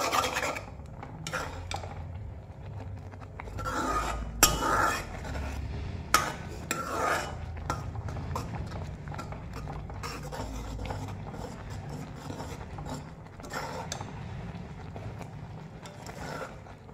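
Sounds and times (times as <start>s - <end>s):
metal spoon scraping metal pan: 0.0s - 2.0s, 3.4s - 16.9s.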